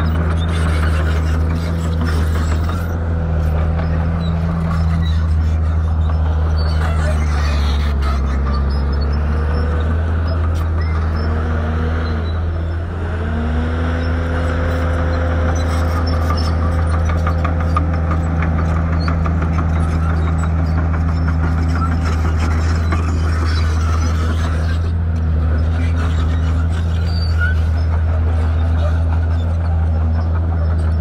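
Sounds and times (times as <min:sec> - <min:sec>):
heavy diesel engines running: 0:00.0 - 0:31.0.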